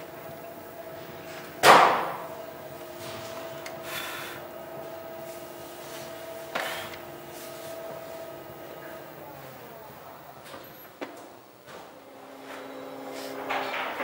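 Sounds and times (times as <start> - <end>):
potter's wheel humming: 0.0 - 14.0.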